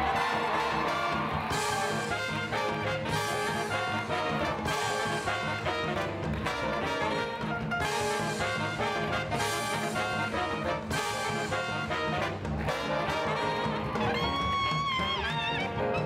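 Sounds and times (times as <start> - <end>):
big band swing music: 0.0 - 16.0
trombones and trumpets playing: 0.0 - 16.0.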